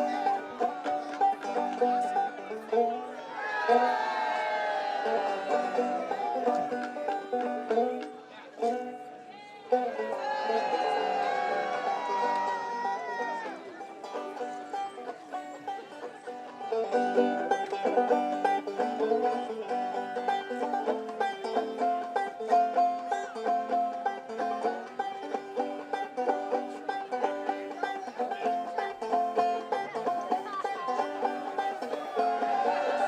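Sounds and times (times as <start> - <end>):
banjo bluegrass music: 0.0 - 33.0.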